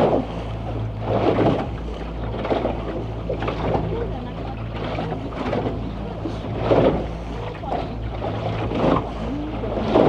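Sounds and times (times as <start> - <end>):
motor boat engine droning: 0.0 - 10.0
water splashing against hull: 0.0 - 10.0.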